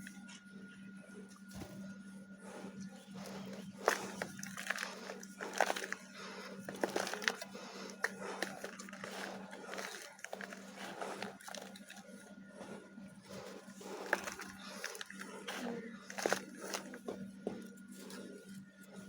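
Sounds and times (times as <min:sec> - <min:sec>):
steady low hum: 0:00.0 - 0:19.0
dry clay crumbling and crunching: 0:02.5 - 0:18.6.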